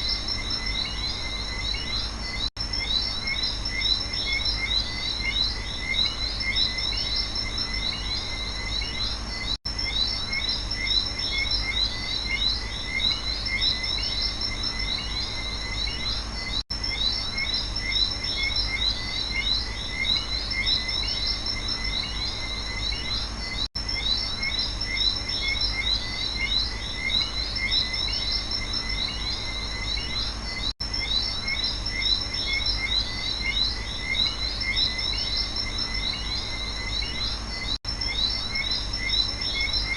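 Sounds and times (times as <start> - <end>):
frogs and insects chirping: 0.0 - 39.9.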